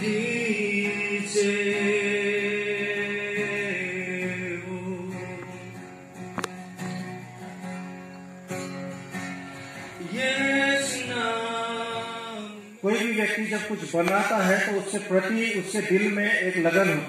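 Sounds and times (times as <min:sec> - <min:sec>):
acoustic guitar: 0:00.0 - 0:17.0.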